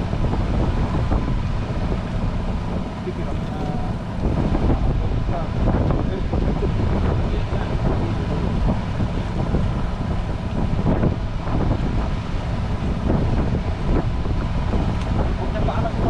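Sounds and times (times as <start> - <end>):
boat engine running: 0.0 - 16.0
wind rumbling on microphone: 0.0 - 16.0.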